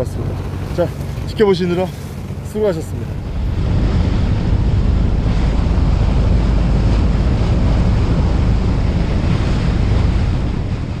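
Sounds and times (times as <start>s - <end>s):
sea water rushing past boat: 0.0s - 11.0s
wind buffeting microphone: 0.0s - 11.0s.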